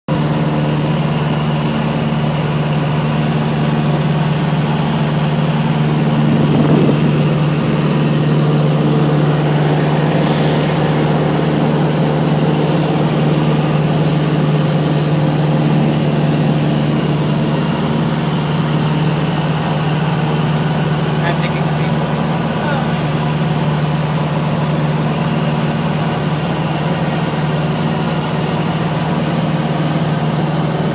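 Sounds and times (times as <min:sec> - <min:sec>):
propeller plane engine droning: 0:00.1 - 0:30.9.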